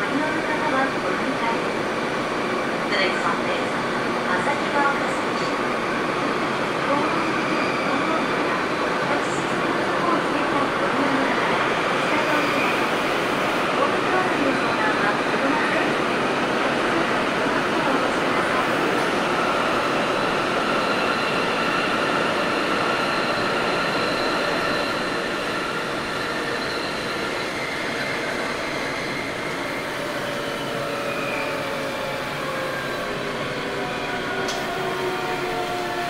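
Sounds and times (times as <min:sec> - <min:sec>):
rail and wheel noise: 0:00.0 - 0:36.0.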